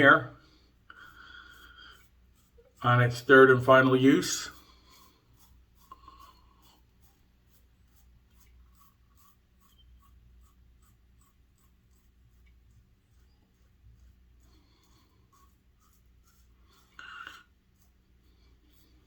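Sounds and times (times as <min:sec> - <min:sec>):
razor scraping stubble: 0:00.0 - 0:19.0.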